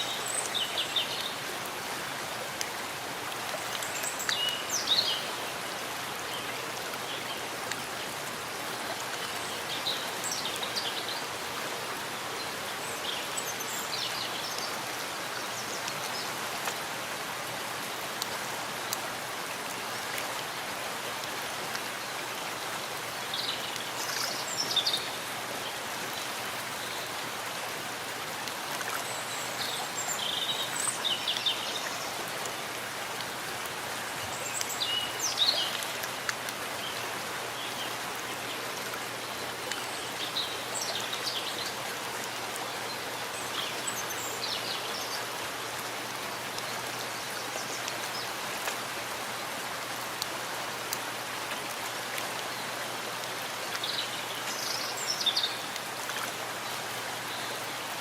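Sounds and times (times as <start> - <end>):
rain on leaves: 0.0 - 58.0.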